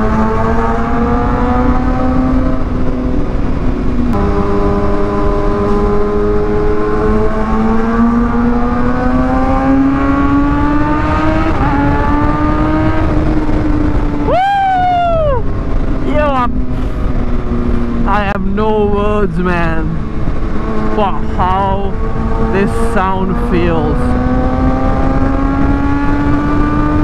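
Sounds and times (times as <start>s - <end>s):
motorcycle engine revving: 0.0s - 14.8s, 15.4s - 27.0s
wind rumble on microphone: 0.0s - 27.0s.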